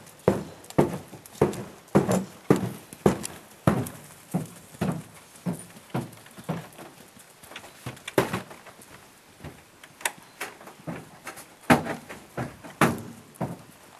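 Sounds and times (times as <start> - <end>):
horse hoofbeats on sand: 0.0 - 9.6, 10.7 - 13.9.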